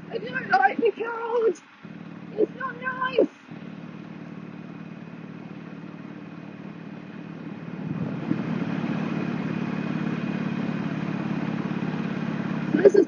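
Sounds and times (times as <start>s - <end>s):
motorcycle engine hum: 0.0s - 13.0s.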